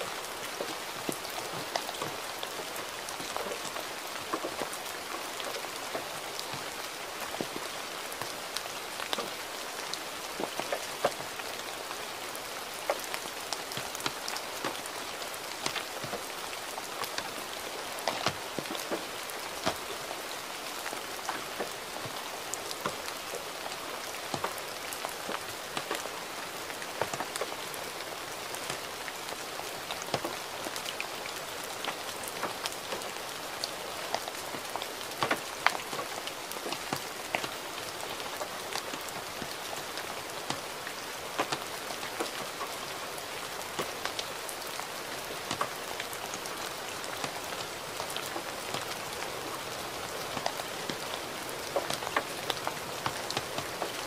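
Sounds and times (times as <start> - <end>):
gentle rain hiss: 0.0 - 54.0
raindrops ticking: 0.1 - 54.0.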